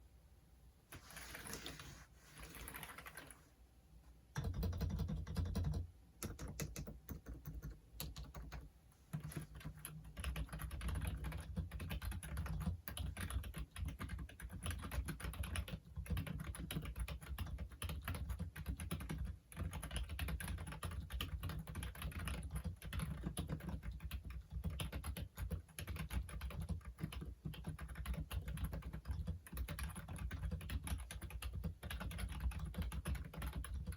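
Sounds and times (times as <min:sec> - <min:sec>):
keyboard typing clicks: 0:04.4 - 0:33.9.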